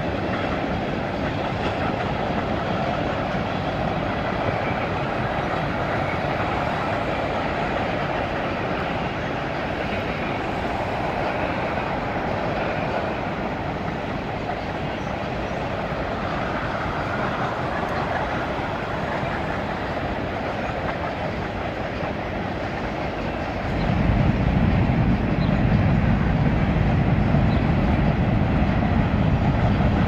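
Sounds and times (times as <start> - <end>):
freight train rolling past: 0.0 - 30.0
steel wheels on rails: 0.0 - 30.0.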